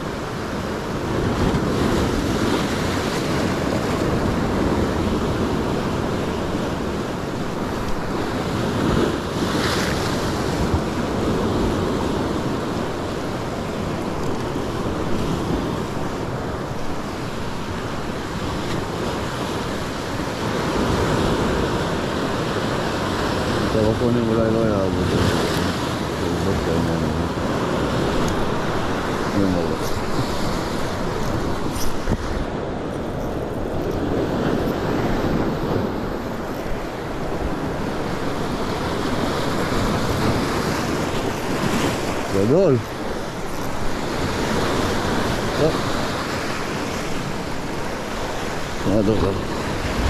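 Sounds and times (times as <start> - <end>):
sea surf breaking on rocks: 0.0 - 50.0
wind buffeting microphone: 0.0 - 50.0.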